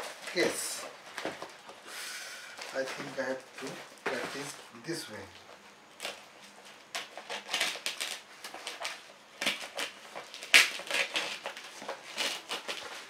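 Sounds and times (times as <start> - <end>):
plastic crinkling: 0.0 - 13.0.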